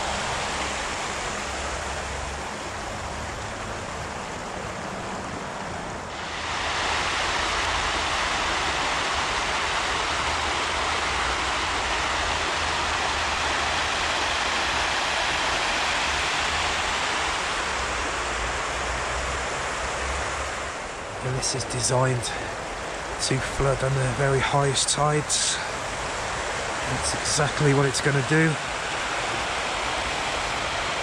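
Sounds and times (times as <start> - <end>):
water rushing across grass: 0.0 - 31.0.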